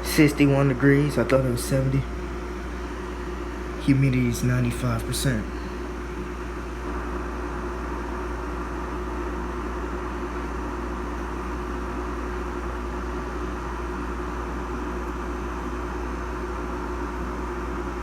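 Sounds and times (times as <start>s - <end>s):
air conditioner humming: 0.0s - 18.0s
fan air rushing: 0.0s - 18.0s.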